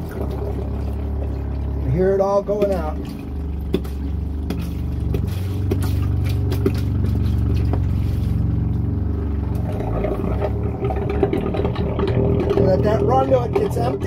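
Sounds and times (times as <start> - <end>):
liquid trickling into drain: 0.0 - 14.0
sump pump humming: 0.0 - 14.0.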